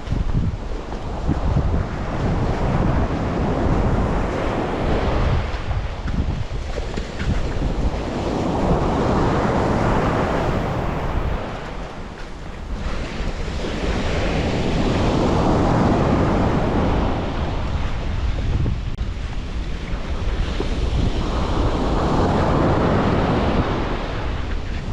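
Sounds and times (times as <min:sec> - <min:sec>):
sea waves breaking on shore: 0:00.0 - 0:24.9
wind on microphone: 0:00.0 - 0:24.9.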